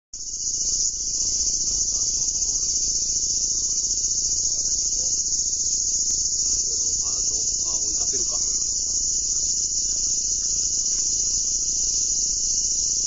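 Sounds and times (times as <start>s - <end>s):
insects shrilling: 0.2s - 13.0s.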